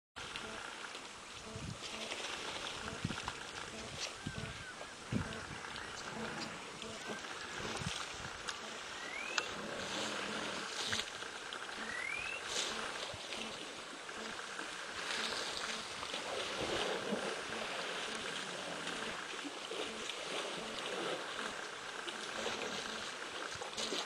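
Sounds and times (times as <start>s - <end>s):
steady outdoor hiss: 0.2s - 24.0s
water sloshing and splashing: 0.2s - 24.0s.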